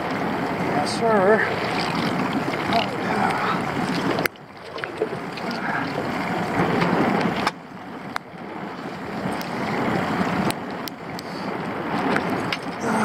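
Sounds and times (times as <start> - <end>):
waves slapping against a hull: 0.0 - 13.0
wind buffeting microphone: 0.0 - 13.0.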